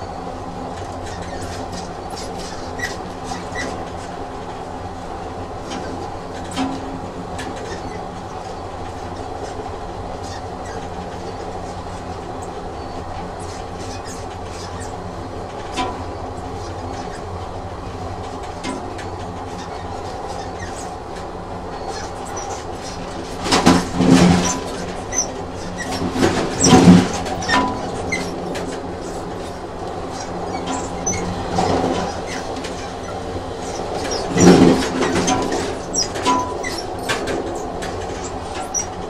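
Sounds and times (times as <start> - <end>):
train wheels clattering on track: 0.0 - 39.0.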